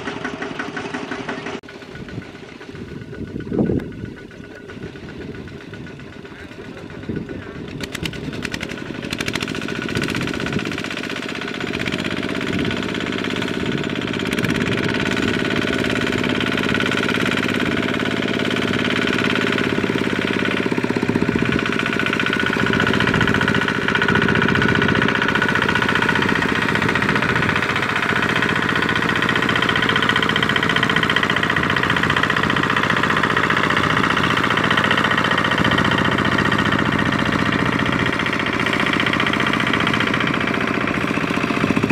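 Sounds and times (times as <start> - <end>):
diesel engine knocking chug: 0.0 - 41.9.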